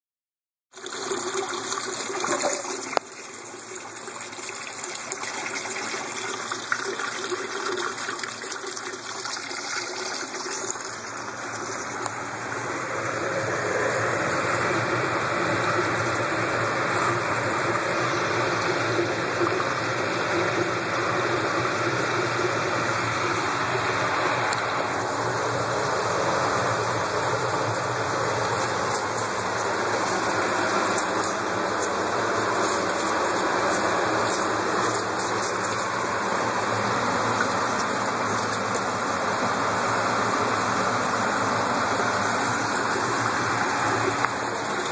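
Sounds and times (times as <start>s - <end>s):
running water pouring and splashing: 0.7s - 44.9s.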